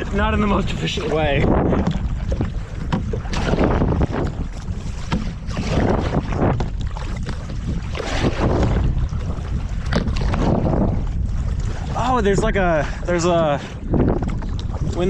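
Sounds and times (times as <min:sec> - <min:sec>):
kayak paddles splashing in water: 0:00.0 - 0:15.0
wind rumble on microphone: 0:00.0 - 0:15.0.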